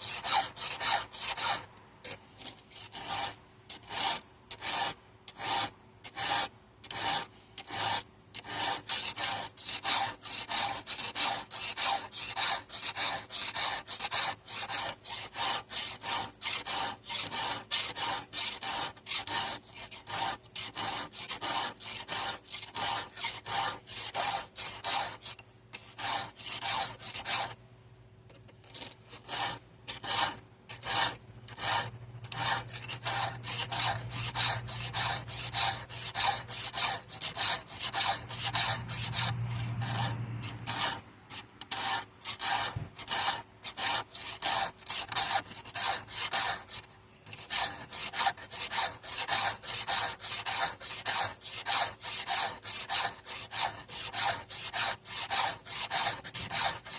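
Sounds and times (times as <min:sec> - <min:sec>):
file rasping on chainsaw chain: 0:00.0 - 0:27.6, 0:28.3 - 0:56.9.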